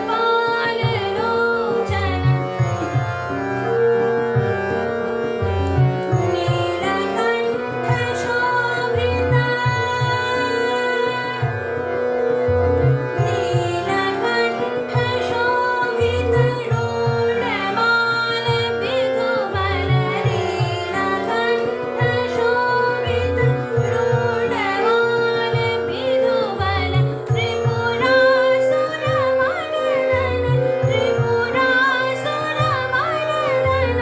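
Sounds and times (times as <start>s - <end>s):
woman singing: 0.0s - 3.1s, 5.7s - 11.8s, 12.8s - 34.0s.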